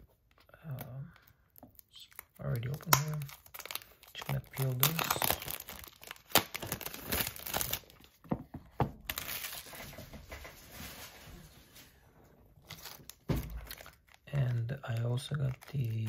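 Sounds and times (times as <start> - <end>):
plastic wrap crinkling and snapping: 0.2 - 8.3, 9.0 - 11.4, 12.6 - 16.0.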